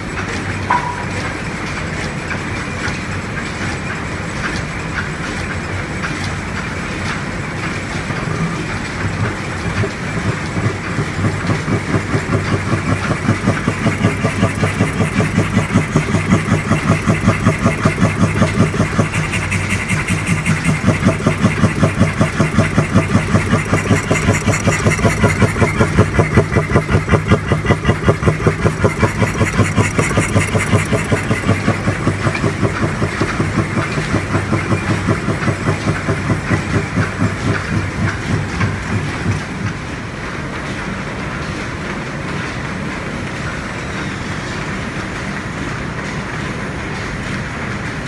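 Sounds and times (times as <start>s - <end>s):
lineshaft and belts humming: 0.0s - 48.0s
stationary engine chugging: 0.0s - 48.0s.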